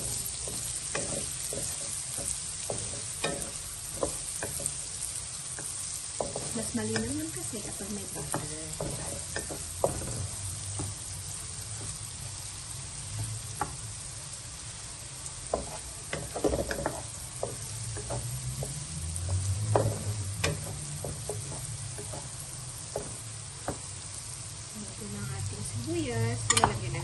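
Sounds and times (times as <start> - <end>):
wooden spatula scraping and tapping: 0.0 - 12.1, 13.1 - 13.9, 15.4 - 24.1, 26.4 - 27.0
onion sizzling in butter: 0.0 - 27.0.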